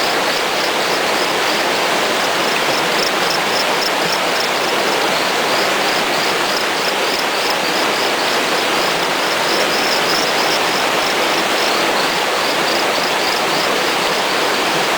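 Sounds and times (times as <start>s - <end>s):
rush of flowing water: 0.0s - 14.9s.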